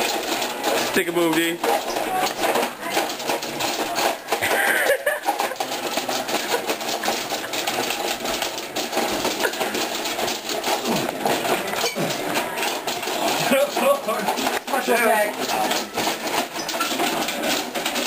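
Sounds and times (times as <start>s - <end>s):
plastic toy robots clattering: 0.0s - 18.0s.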